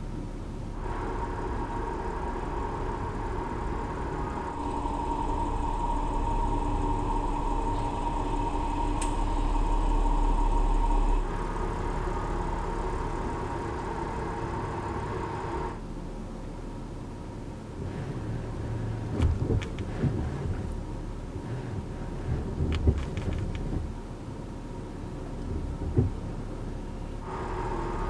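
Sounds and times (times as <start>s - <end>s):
car engine rumble: 0.0s - 28.0s.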